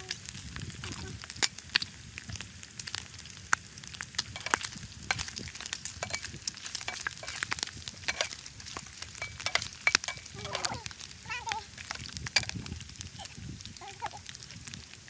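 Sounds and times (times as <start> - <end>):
fat popping and crackling: 0.0 - 15.0
pork sizzling in oil: 0.0 - 15.0.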